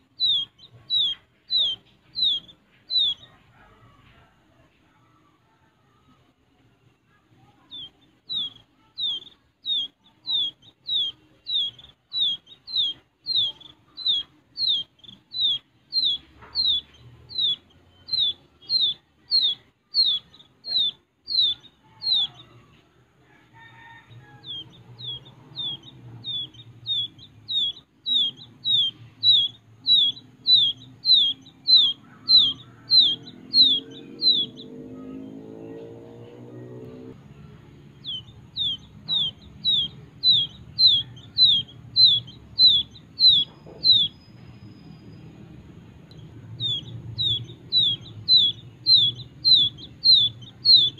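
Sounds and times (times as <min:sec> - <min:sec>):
quail chick peeping: 0:00.0 - 0:50.9.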